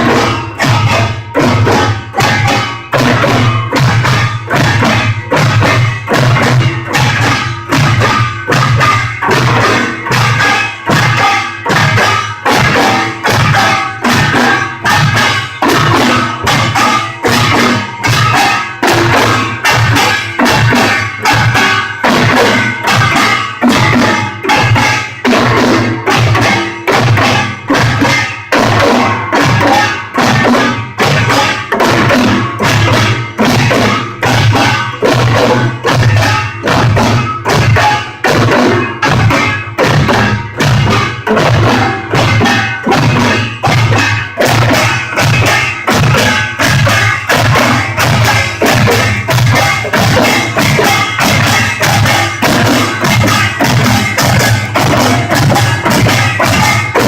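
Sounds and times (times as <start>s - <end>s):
drum and gong ensemble rhythm: 0.0s - 57.0s
metallic gong clangs: 0.0s - 57.0s.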